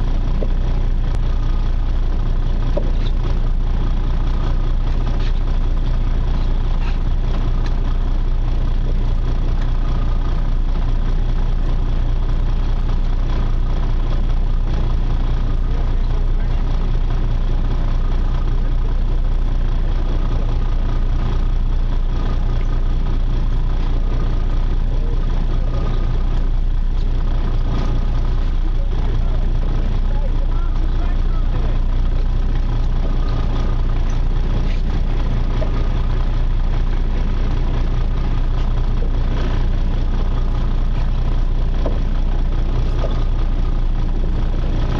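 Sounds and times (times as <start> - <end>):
boat engine drone: 0.0 - 44.9
faint steady whine: 0.0 - 44.9.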